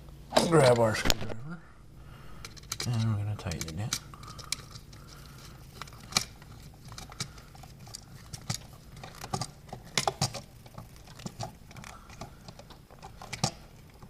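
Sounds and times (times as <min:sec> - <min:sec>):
metal and plastic parts tapping: 0:02.4 - 0:14.0.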